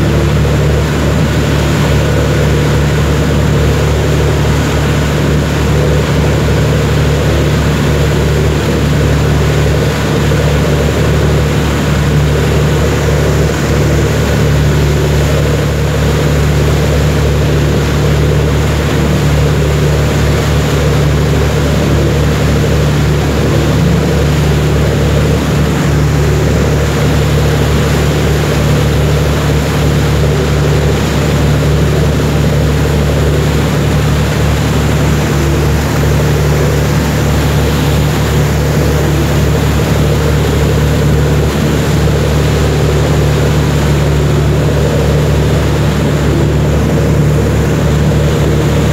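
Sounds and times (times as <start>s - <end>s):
boat engine low hum: 0.0s - 48.9s
wind and water rushing: 0.0s - 48.9s.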